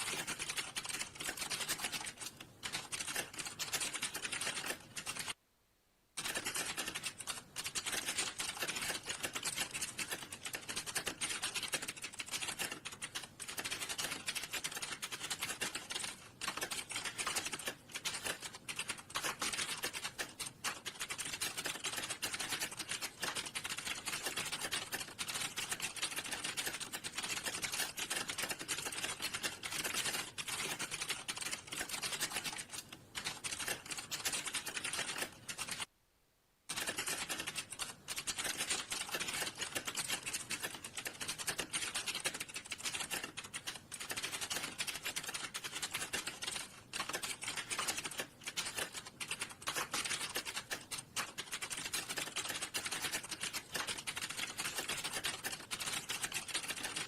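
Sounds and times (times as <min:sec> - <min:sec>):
fast typing on keyboard: 0:00.0 - 0:05.4, 0:06.2 - 0:35.9, 0:36.7 - 0:57.0.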